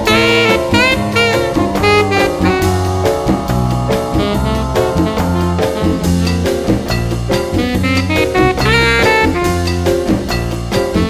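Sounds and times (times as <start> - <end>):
drum kit steady beat: 0.0 - 11.0
saxophone melody: 0.0 - 11.0.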